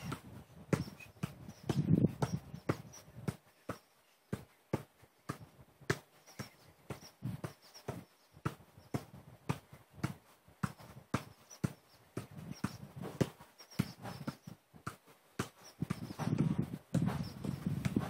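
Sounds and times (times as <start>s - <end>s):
foot thudding football: 0.0s - 18.0s.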